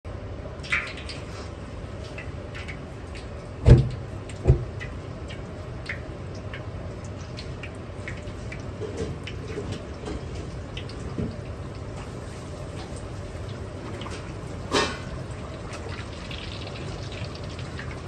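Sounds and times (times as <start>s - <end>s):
chicken deep-frying in oil: 0.1s - 18.0s
low kitchen roar: 0.1s - 18.0s.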